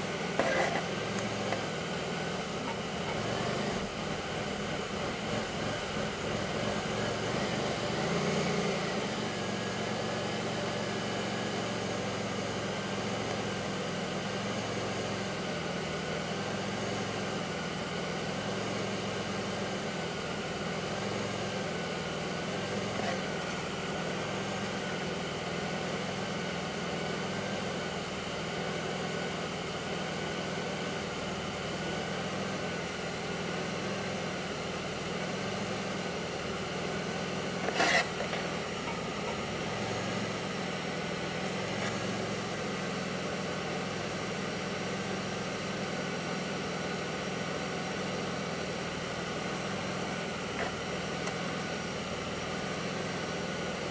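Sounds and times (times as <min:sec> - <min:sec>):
car engine idling rough: 0:00.0 - 0:53.9.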